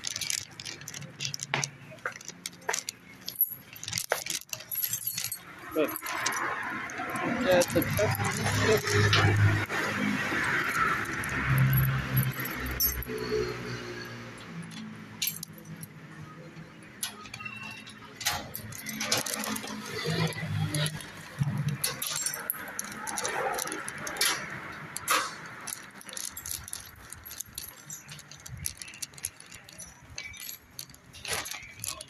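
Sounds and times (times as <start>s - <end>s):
rustling handling noise: 0.0s - 13.8s, 14.4s - 32.0s
metallic jingling and clinking: 0.0s - 32.0s.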